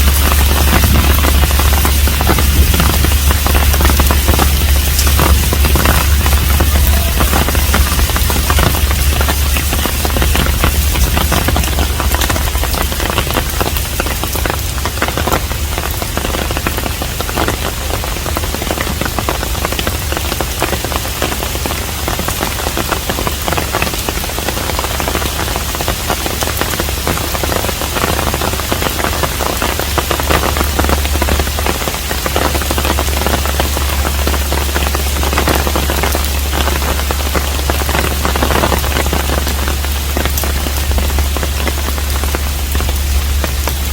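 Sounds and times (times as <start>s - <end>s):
rain patter on a roof: 0.0s - 43.9s.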